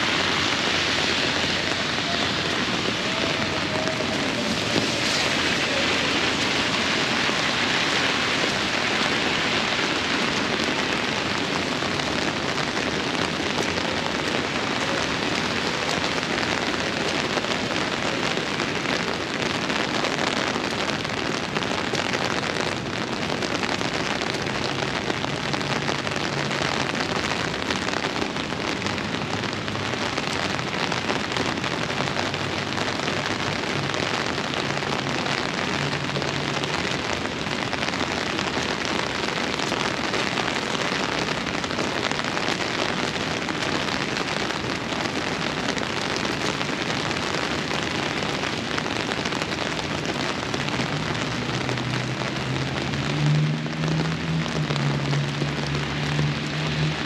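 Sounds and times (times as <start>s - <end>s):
steady rain downpour: 0.0s - 57.0s.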